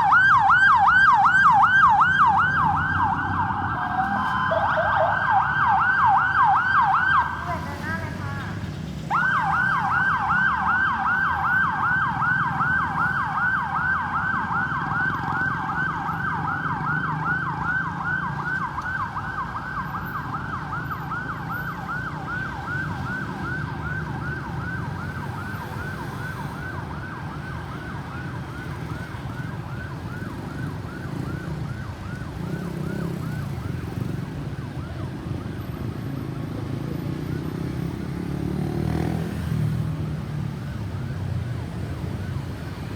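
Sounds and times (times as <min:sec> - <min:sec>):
ambulance siren yelping: 0:00.0 - 0:08.2, 0:09.1 - 0:42.9
road traffic rumble: 0:00.0 - 0:42.9.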